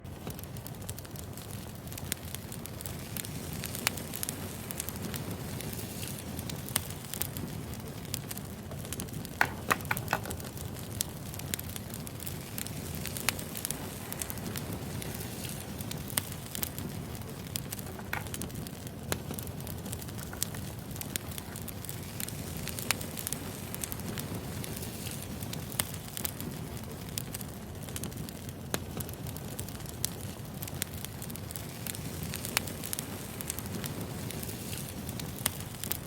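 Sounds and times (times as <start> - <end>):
fire crackling and popping: 0.0 - 36.0
wood fire burning: 0.0 - 36.0.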